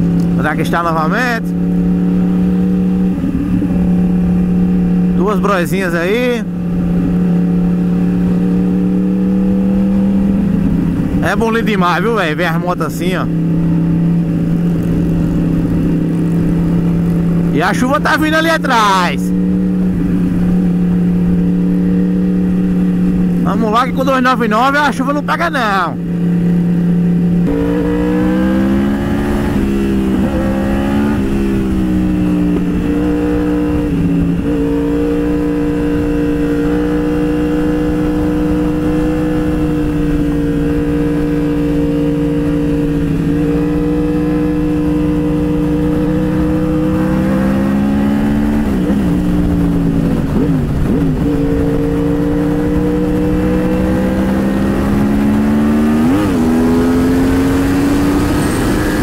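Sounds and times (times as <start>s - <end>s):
motorcycle engine shifting gears: 0.0s - 25.4s, 26.0s - 59.0s.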